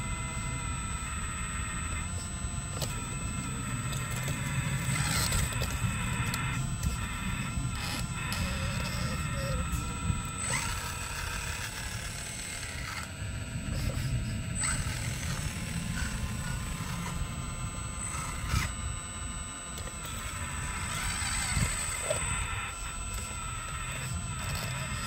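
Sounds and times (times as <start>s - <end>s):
high motor whine: 0.0s - 25.0s.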